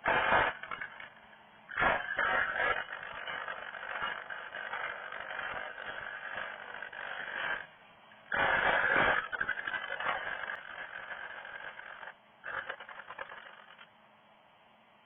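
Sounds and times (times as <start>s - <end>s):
lathe cutter cutting wood: 0.0s - 1.1s, 1.7s - 7.6s, 8.3s - 13.8s.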